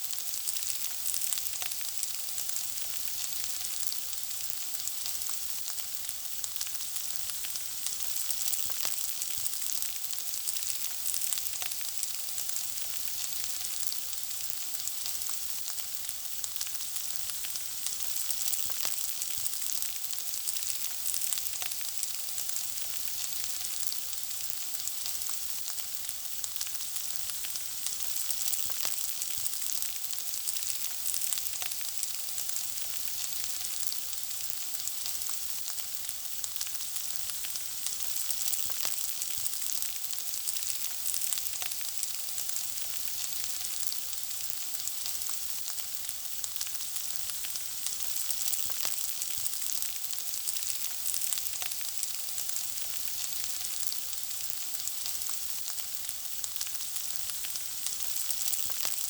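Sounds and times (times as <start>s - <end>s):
food sizzling in frying: 0.0s - 59.0s.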